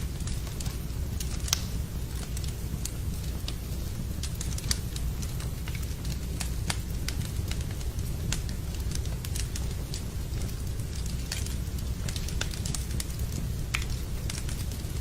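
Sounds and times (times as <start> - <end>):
low fire rumble: 0.0 - 15.0
rain: 0.0 - 15.0
wood fire crackling: 0.0 - 15.0.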